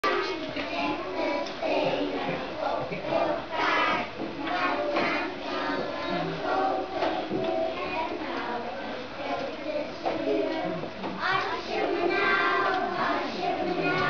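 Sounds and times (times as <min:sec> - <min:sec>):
young children singing: 0:00.0 - 0:14.0.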